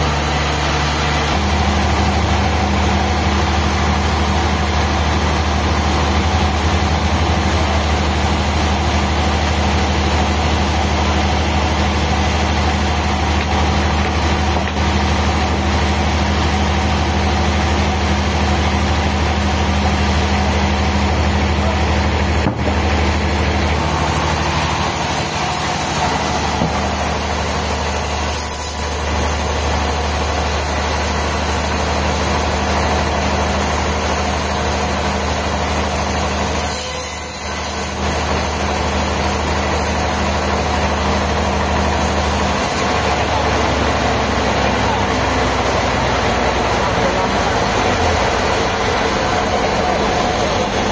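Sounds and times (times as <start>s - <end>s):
heavy engine running: 0.0s - 50.9s.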